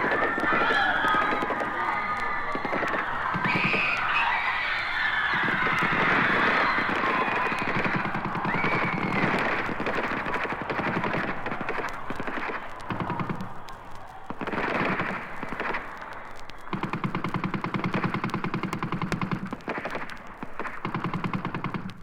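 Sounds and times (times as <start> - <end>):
rapid automatic gunfire: 2.6 - 4.0, 5.0 - 22.0.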